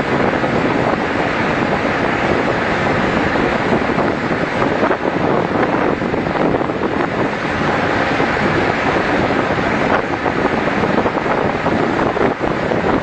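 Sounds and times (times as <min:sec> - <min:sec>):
rough sea rushing: 0:00.0 - 0:13.0
wind on microphone: 0:00.0 - 0:13.0.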